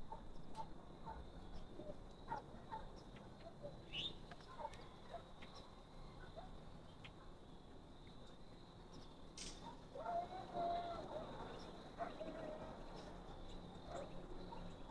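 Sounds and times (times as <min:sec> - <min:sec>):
animal calls and chirps: 0:00.0 - 0:07.4, 0:08.7 - 0:14.9.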